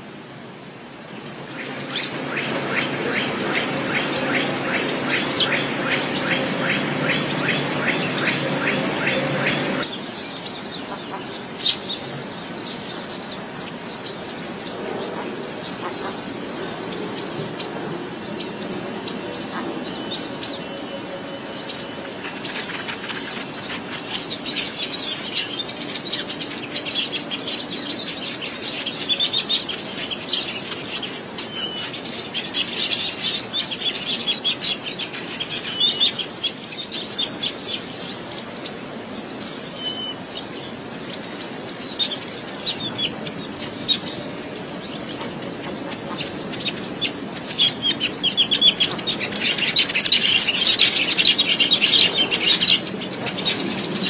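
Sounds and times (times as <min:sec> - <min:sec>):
small birds chirping: 0:00.9 - 0:54.0.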